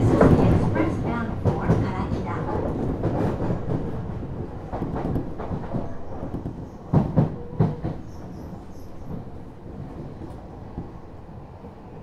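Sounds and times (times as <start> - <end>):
clacks over rail joints: 0.0 - 11.0
train wheels rumbling on track: 0.0 - 12.0.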